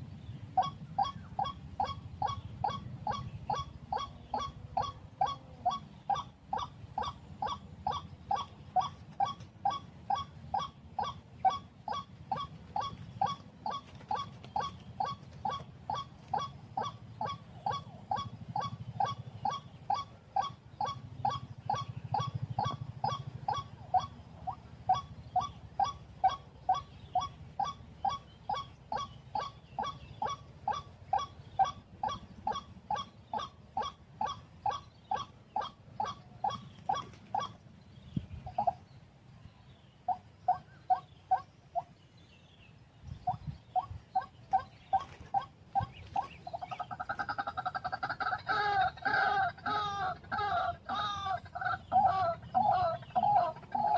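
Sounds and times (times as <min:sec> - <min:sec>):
waterhen calling: 0:00.0 - 0:39.2, 0:40.0 - 0:42.0, 0:43.2 - 0:53.9.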